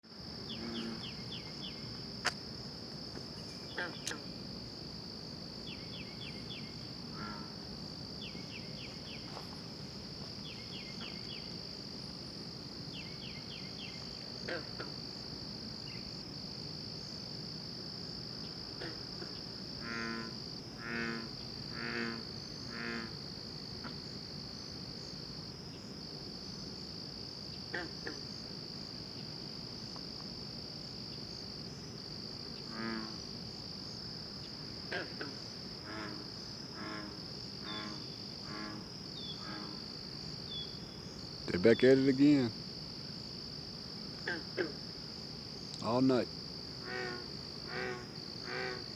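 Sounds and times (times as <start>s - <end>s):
high-pitched insect trill: 0.1s - 48.9s.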